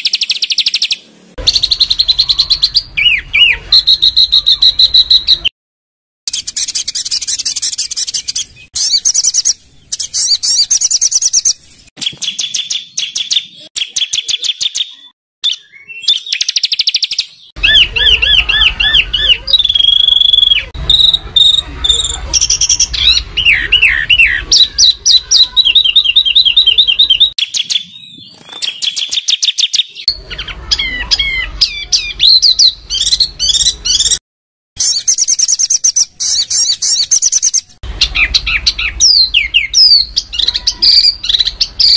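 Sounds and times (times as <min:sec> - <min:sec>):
songbird trills and harsh notes: 0:00.0 - 0:05.5, 0:06.3 - 0:34.2, 0:34.8 - 0:41.9
songbird whistled phrases: 0:00.0 - 0:05.5, 0:06.3 - 0:34.2, 0:34.8 - 0:41.9.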